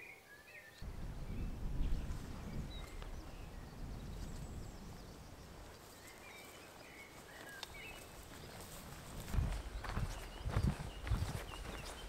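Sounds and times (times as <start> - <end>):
birds singing and chirping: 0.0 - 12.0
wind rumble on microphone: 0.8 - 7.0, 7.8 - 12.0.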